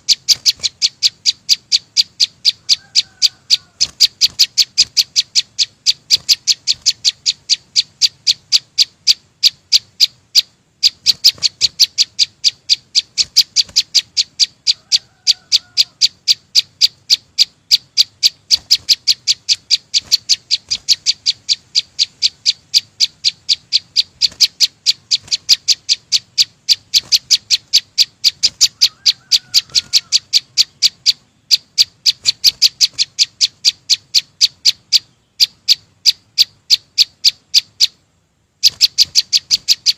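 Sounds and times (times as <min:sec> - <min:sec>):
faint lower bird call: 0:00.0 - 0:38.0
songbird high chip notes: 0:00.0 - 0:38.0.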